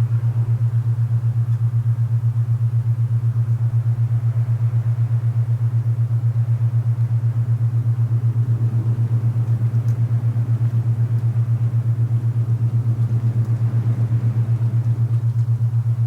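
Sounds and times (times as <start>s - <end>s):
low beating hum: 0.0s - 16.0s.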